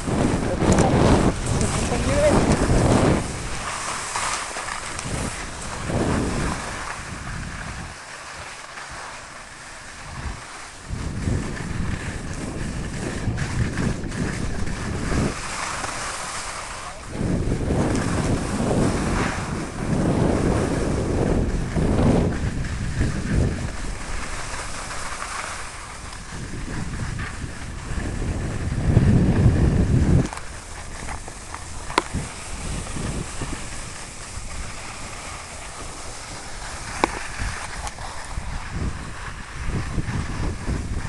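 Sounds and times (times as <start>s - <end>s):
wind buffeting microphone: 0.0s - 8.1s, 9.8s - 41.0s
skis scraping across snow: 0.0s - 41.0s.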